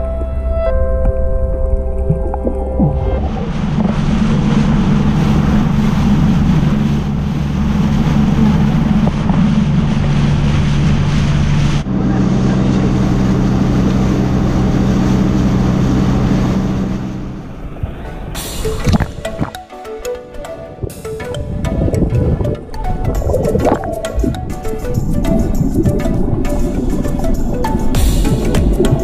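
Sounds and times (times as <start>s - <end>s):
wind on microphone: 0.0s - 19.6s, 20.6s - 29.0s
boat engine running: 0.0s - 29.0s
rushing water: 1.4s - 29.0s.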